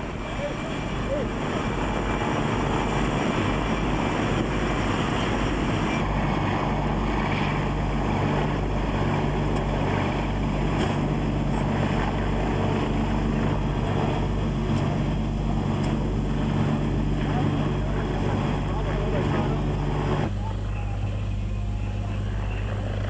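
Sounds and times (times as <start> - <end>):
engine rumble with low hum: 0.0 - 23.0
outdoor noise: 0.0 - 23.0.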